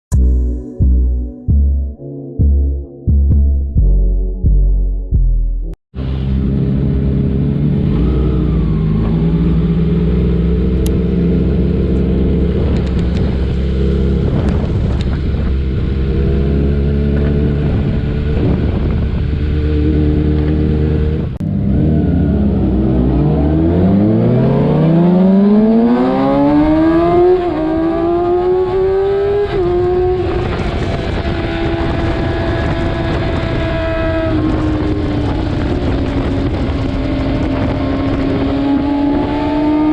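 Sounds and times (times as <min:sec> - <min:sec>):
motorcycle engine revving: 0:06.0 - 0:39.9.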